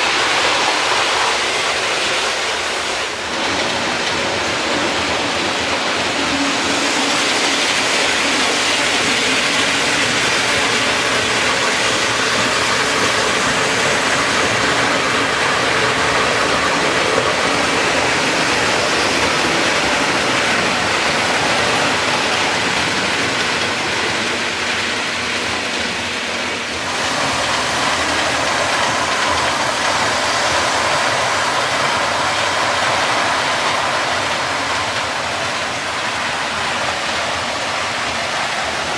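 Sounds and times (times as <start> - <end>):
model trains running on track: 0.0 - 38.9.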